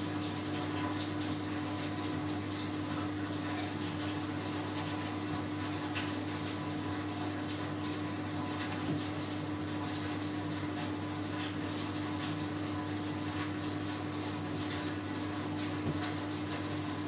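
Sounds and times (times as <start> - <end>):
gas boiler humming: 0.0 - 17.0
water rushing in boiler: 0.0 - 17.0.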